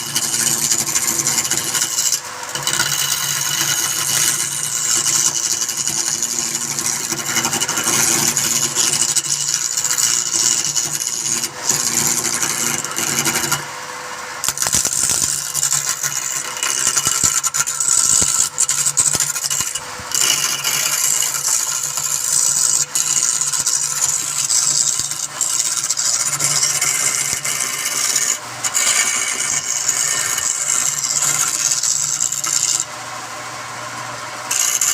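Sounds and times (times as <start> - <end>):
lathe motor hum: 0.0 - 34.9
turning tool cutting spinning wood: 0.0 - 34.9.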